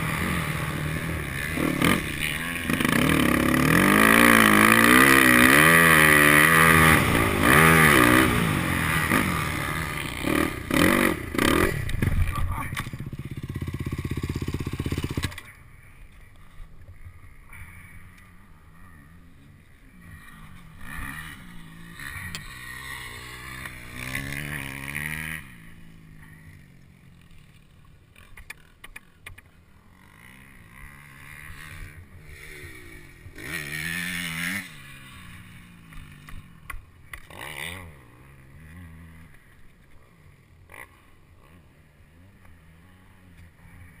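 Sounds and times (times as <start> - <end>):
distant motocross bikes revving: 0.0 - 44.0.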